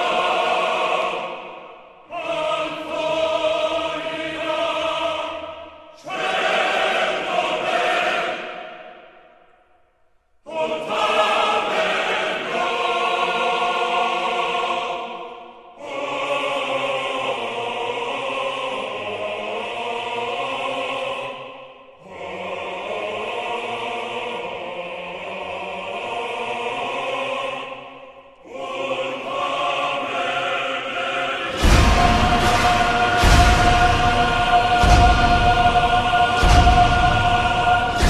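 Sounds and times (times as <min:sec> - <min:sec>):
choir singing held chords: 0:00.0 - 0:09.8, 0:10.4 - 0:38.0.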